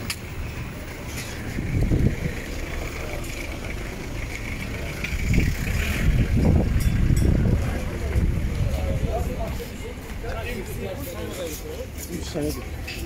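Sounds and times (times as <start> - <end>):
faint background noise: 0.0 - 13.0
low street rumble: 0.0 - 13.0.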